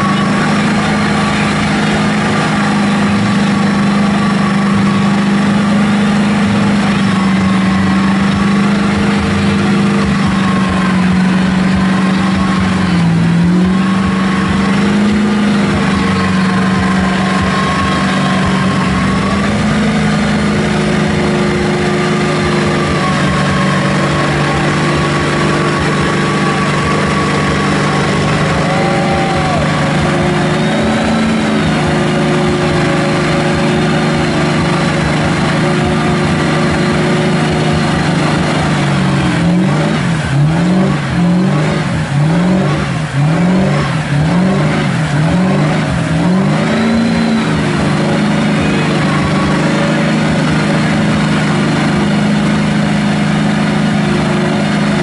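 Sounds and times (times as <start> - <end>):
truck engine revving in mud: 0.0 - 55.0.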